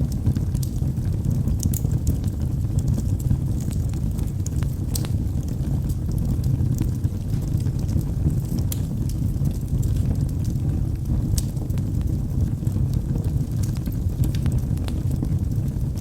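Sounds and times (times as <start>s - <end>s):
fire crackling: 0.0s - 16.0s
fire rumbling: 0.0s - 16.0s
sharp pops of burning logs: 0.1s - 16.0s.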